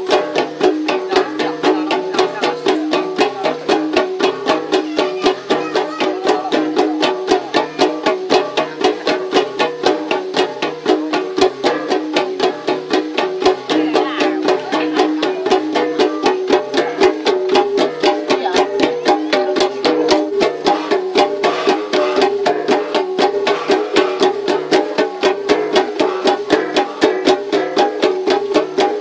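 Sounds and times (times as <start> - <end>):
flat gongs struck by hand: 0.0 - 29.0.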